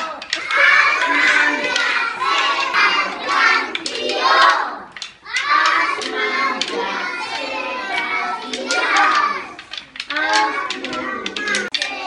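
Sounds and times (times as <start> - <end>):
children singing in chorus: 0.0 - 12.0.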